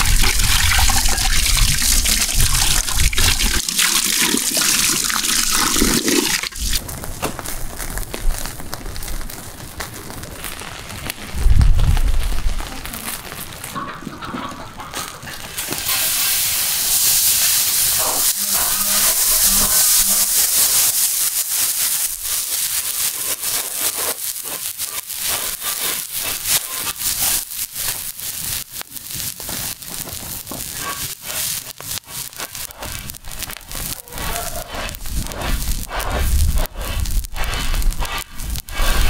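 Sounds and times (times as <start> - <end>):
grains stirred across hot iron: 0.0 - 10.8, 15.2 - 39.0
grains sizzling on hot griddle: 0.0 - 13.8, 15.0 - 39.0.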